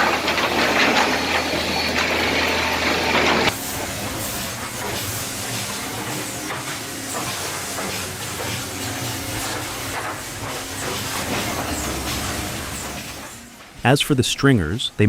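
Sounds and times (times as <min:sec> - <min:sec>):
woodworking machinery humming: 0:00.0 - 0:14.2.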